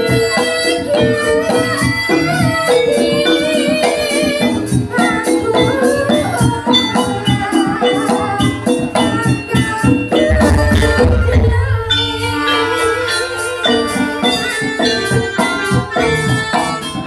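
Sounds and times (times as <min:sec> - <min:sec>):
gamelan music: 0:00.0 - 0:17.0
rapid percussion: 0:00.0 - 0:17.0
wavering melody line: 0:00.0 - 0:17.0.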